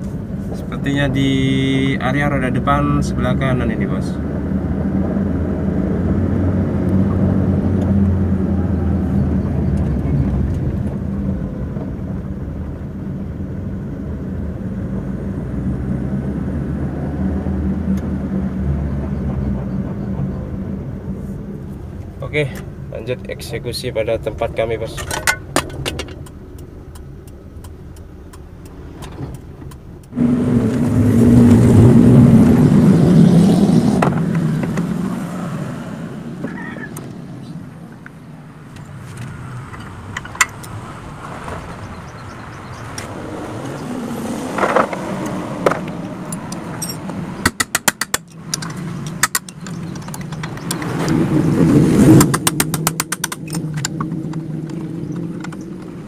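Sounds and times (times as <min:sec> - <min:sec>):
car running loudly: 0:00.0 - 0:56.0.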